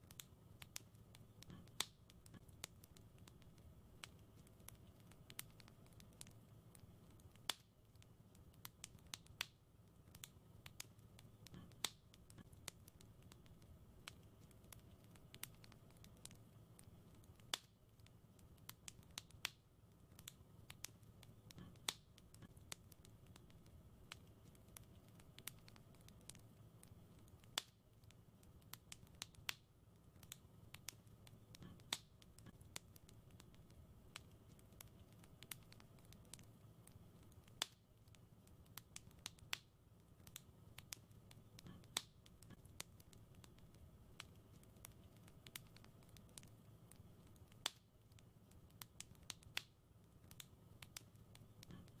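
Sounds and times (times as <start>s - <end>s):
faint low rumble: 0.0s - 49.2s
wood fire crackling: 0.0s - 52.0s.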